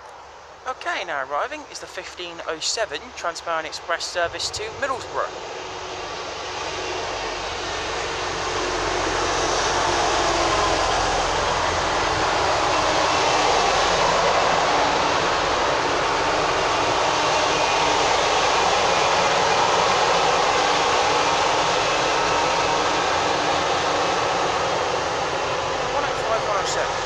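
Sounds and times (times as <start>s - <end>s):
diesel train arriving slowly: 0.0s - 27.0s.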